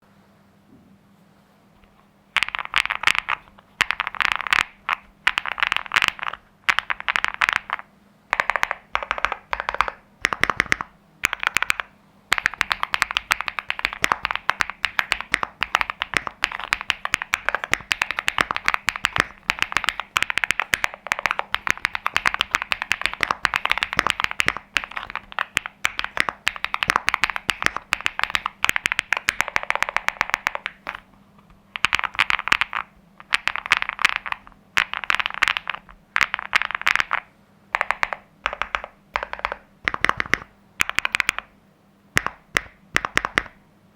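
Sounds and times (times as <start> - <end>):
mechanical keyboard keys clacking: 2.4 - 31.0, 31.8 - 41.5, 42.2 - 43.6.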